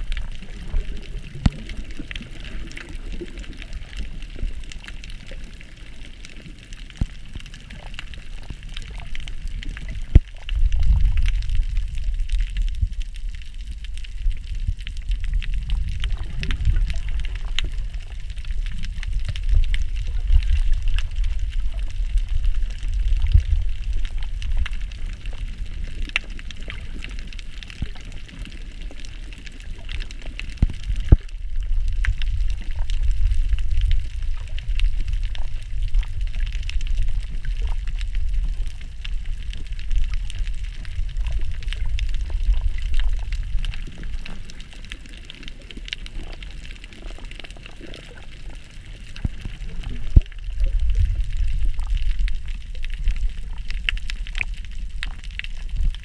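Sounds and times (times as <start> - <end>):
small crackling clicks: 0.0 - 56.0
underwater churning rumble: 0.0 - 56.0.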